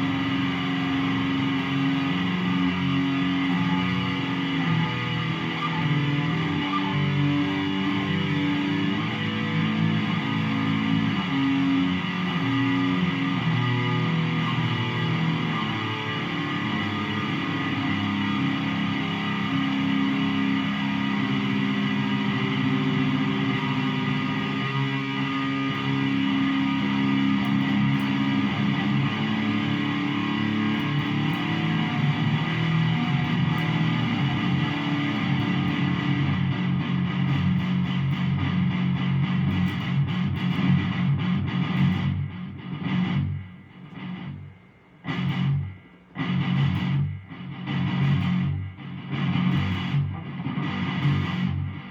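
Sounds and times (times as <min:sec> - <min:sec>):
electric guitar playing: 0:00.0 - 0:51.9.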